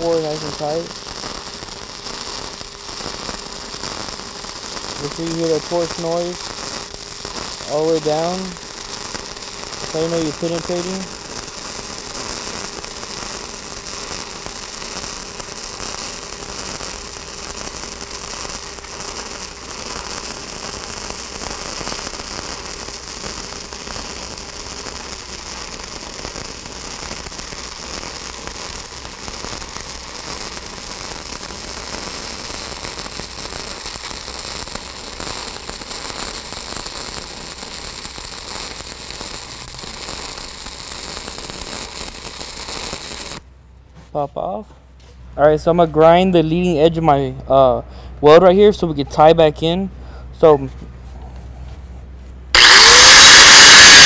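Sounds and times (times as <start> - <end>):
welding arc crackle and hiss: 0.0 - 43.5, 52.5 - 54.0.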